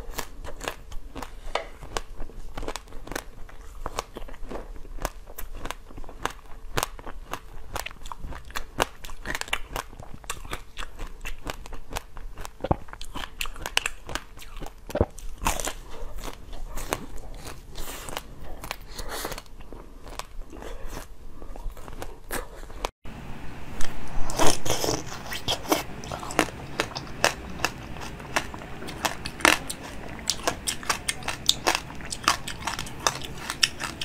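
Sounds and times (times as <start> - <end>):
person chewing crunchy treat: 0.0 - 22.9, 24.1 - 34.0.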